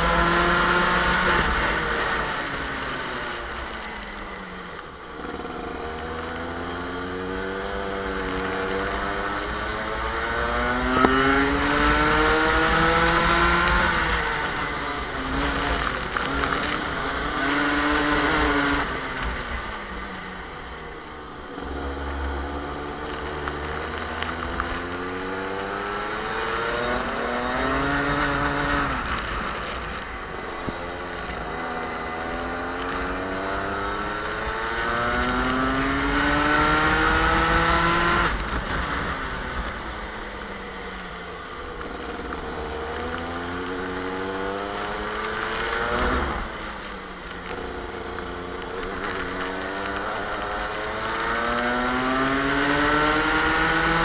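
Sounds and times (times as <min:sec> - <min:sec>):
kart two-stroke engine revving: 0:00.0 - 0:54.0.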